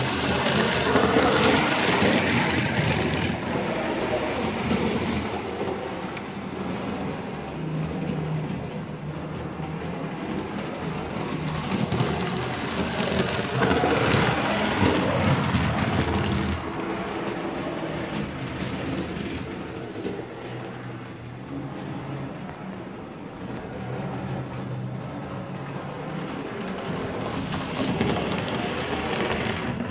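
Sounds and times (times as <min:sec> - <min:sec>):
model steam locomotive running: 0:00.0 - 0:29.9.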